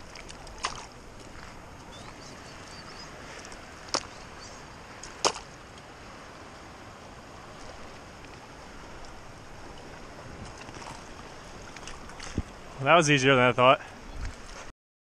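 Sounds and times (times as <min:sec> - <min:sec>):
flowing river water: 0:00.0 - 0:14.7
wind: 0:00.0 - 0:14.7.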